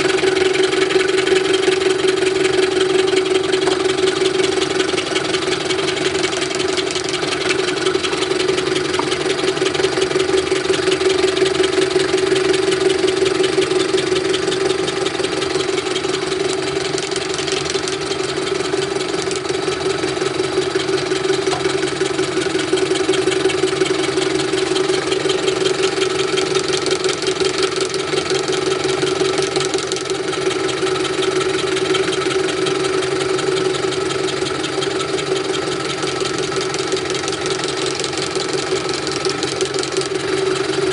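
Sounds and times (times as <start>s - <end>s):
fine rapid rattle: 0.0s - 40.9s
metalworking machine humming: 0.0s - 40.9s.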